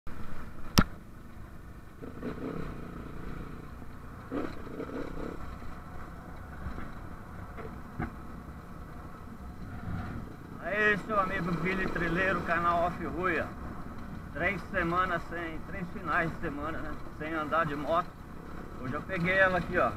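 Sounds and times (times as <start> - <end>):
dirt bike engine running: 0.2 - 19.9.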